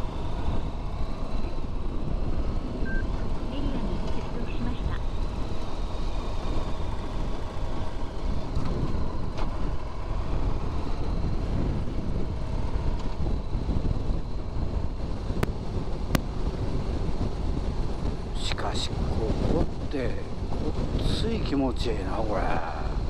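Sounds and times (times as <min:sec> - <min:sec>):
motorcycle engine running: 0:00.0 - 0:21.4
wind rushing over microphone: 0:00.0 - 0:23.0.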